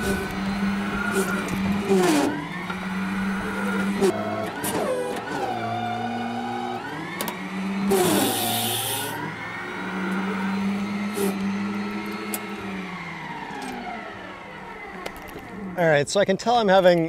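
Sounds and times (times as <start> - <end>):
electric motors whining: 0.0 - 16.1.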